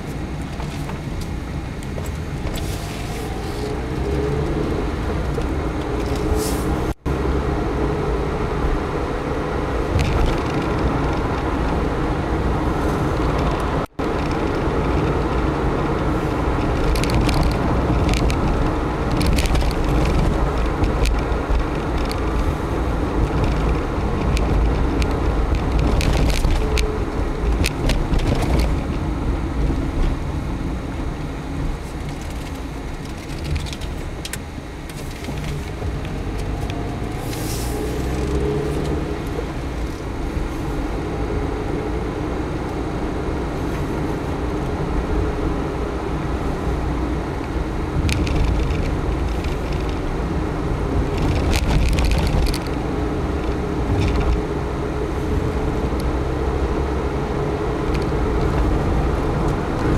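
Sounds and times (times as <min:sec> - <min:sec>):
car engine from inside cabin: 0:00.0 - 0:59.9.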